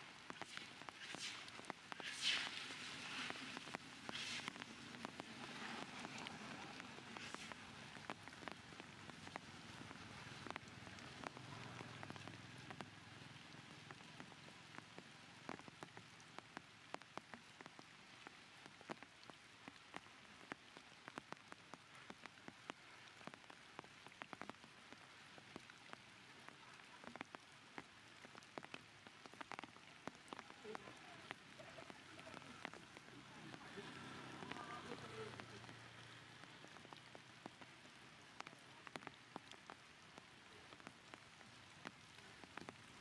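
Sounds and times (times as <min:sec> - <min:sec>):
rain hiss: 0:00.0 - 0:43.0
raindrops pattering: 0:00.0 - 0:43.0.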